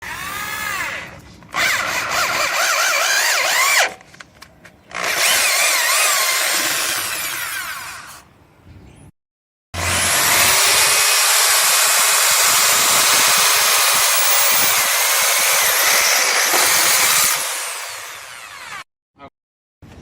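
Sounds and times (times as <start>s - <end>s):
electric drill whining: 0.0s - 4.0s, 5.0s - 8.2s, 9.8s - 18.9s.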